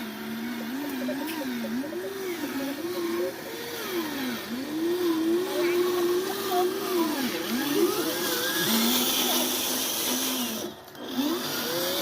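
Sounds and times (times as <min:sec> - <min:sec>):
toy vehicle electric motors whining: 0:00.0 - 0:12.0.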